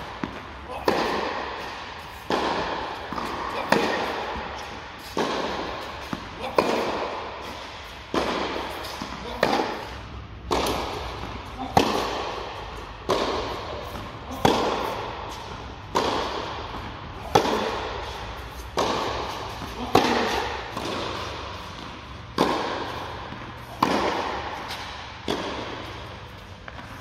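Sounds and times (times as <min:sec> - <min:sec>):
rackets hitting tennis ball: 0:00.0 - 0:27.0.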